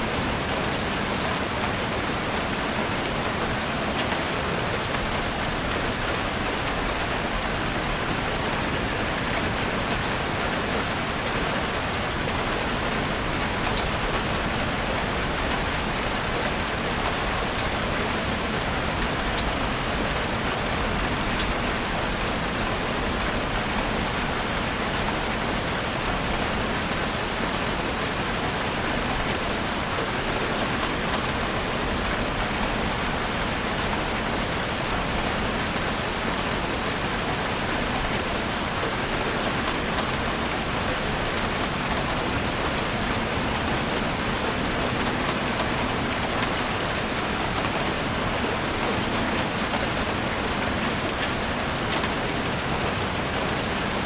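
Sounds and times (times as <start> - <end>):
heavy rain drumming on a roof: 0.0 - 54.0.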